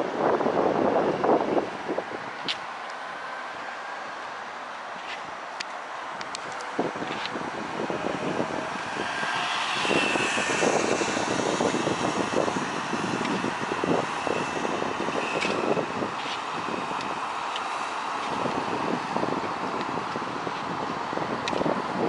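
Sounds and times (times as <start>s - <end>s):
cars driving past: 2.7s - 22.0s.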